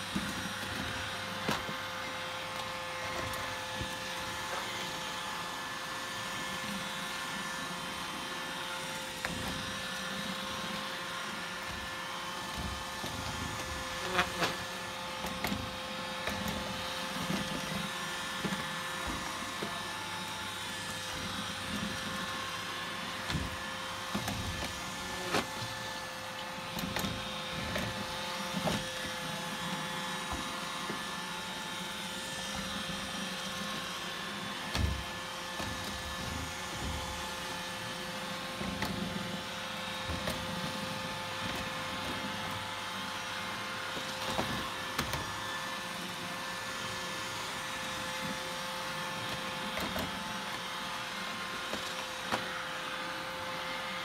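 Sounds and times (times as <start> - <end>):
robot vacuum cleaner humming: 0.0 - 54.0.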